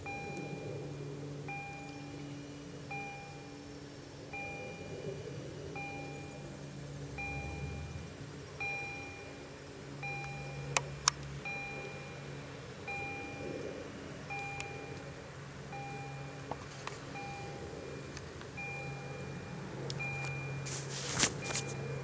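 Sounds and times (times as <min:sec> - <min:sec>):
level crossing warning bell: 0:00.0 - 0:13.6, 0:14.2 - 0:20.8, 0:21.4 - 0:22.0.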